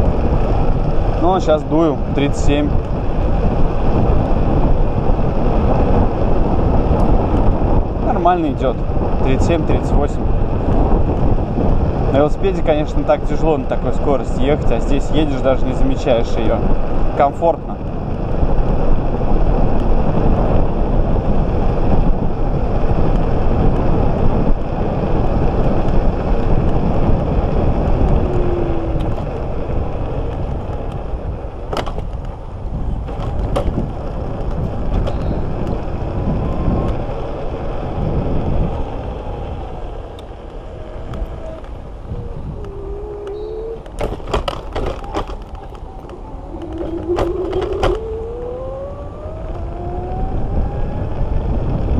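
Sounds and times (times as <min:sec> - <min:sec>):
electric scooter tyre noise: 0:00.0 - 0:51.9
wind buffeting microphone: 0:00.0 - 0:51.9.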